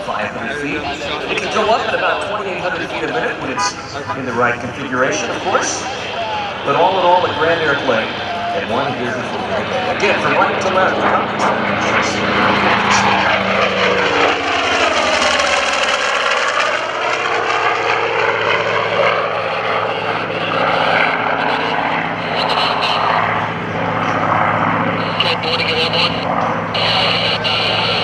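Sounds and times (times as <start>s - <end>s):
propeller plane flyby drone: 0.0s - 28.0s.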